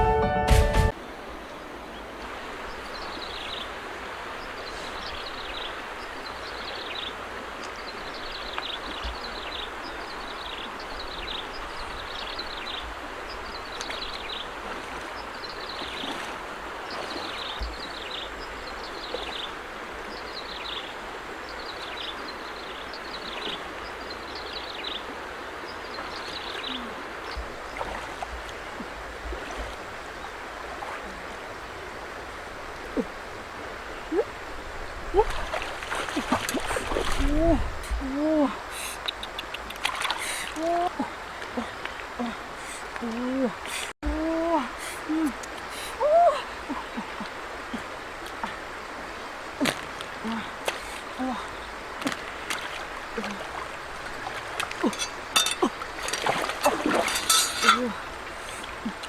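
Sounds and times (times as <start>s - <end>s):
stream flowing: 0.9s - 59.0s.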